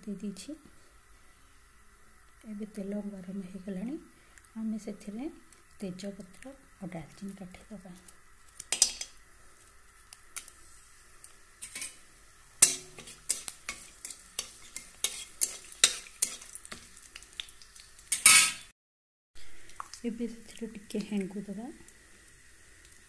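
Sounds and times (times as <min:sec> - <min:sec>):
spices crackling in hot oil: 0:00.0 - 0:18.7, 0:19.4 - 0:23.0.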